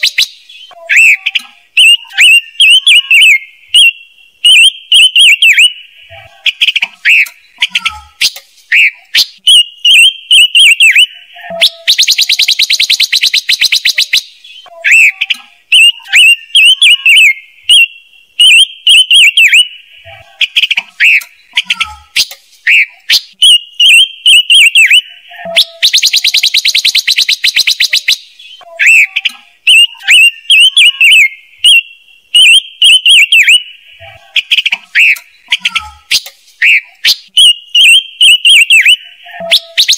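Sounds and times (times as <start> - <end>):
bird chirping phrases: 0.0 - 39.9.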